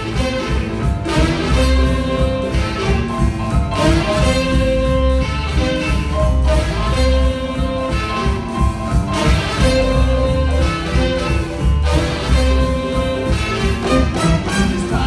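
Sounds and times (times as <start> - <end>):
blues band playing: 0.0 - 15.0
piano: 0.0 - 15.0.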